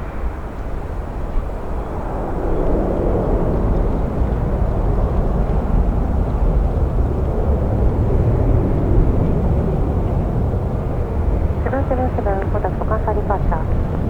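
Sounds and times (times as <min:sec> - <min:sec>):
jet engines rumbling: 0:00.0 - 0:14.0
wind buffeting microphone: 0:00.0 - 0:14.0.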